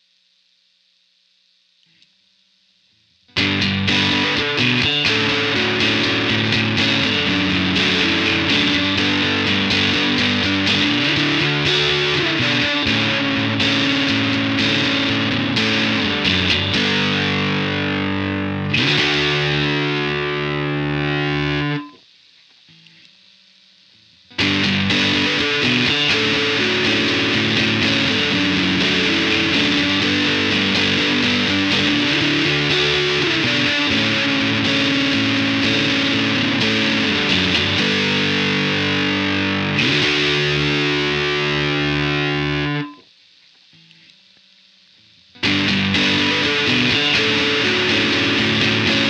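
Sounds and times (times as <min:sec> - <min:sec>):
fuzzy electric guitar chords: 0:03.3 - 0:22.0, 0:24.0 - 0:43.1, 0:44.9 - 0:49.0.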